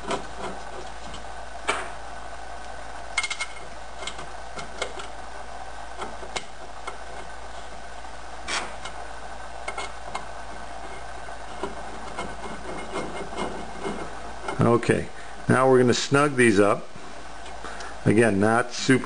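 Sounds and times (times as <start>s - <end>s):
steady room hum: 0.0s - 19.0s.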